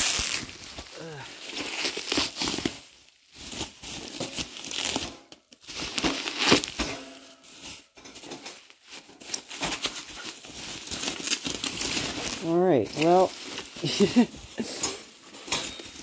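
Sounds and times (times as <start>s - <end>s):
bubble wrap crinkling and crackling: 0.0s - 16.0s.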